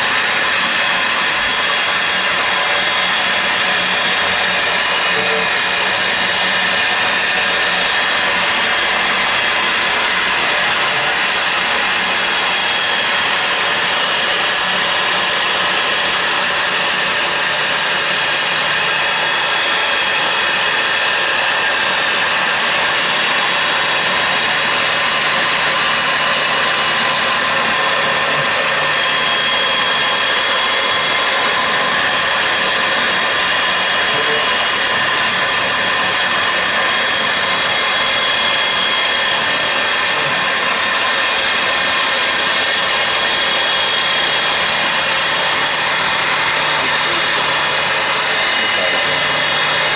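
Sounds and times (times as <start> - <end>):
high constant whining tones: 0.0 - 49.9
milling tool cutting metal: 0.0 - 49.9.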